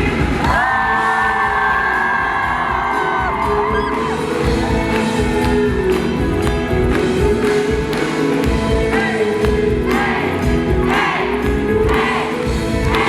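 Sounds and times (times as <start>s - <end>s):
crowd voices: 0.0s - 13.0s
live rock band playing: 0.0s - 13.0s.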